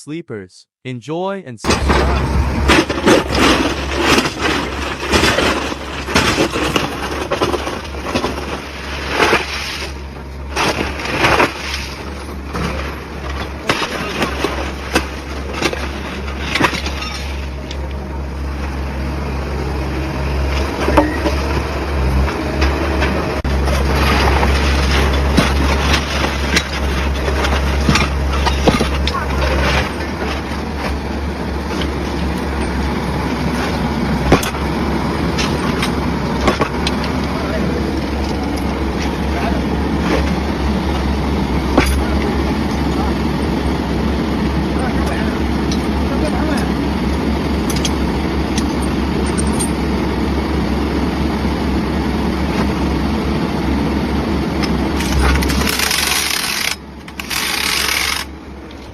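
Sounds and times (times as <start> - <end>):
engine running: 1.7 - 58.9.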